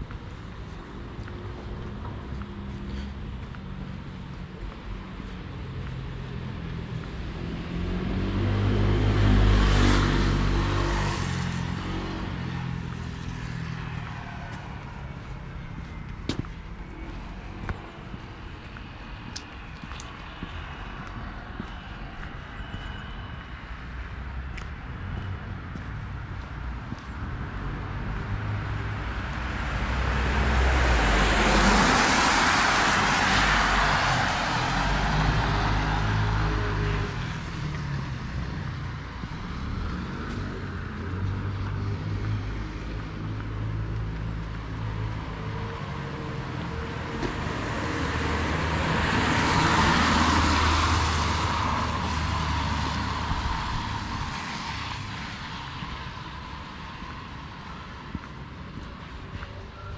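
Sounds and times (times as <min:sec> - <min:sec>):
low traffic rumble: 0:00.0 - 0:59.9.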